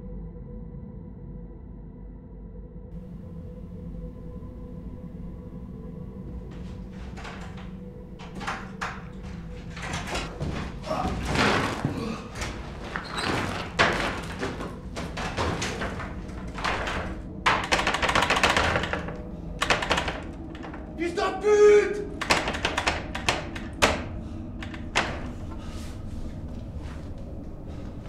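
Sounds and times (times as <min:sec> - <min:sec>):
rattling and banging wooden door: 0:03.0 - 0:21.3, 0:22.0 - 0:28.0.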